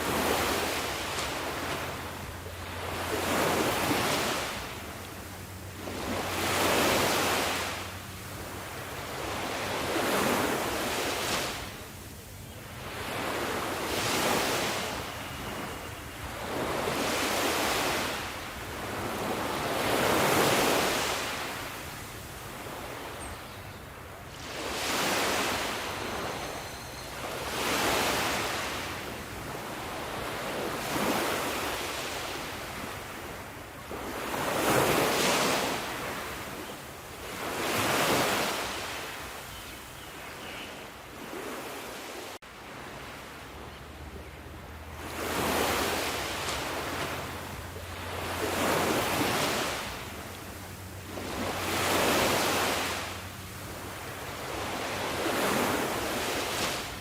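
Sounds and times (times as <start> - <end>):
sea waves breaking: 0.0 - 39.6, 41.1 - 57.0.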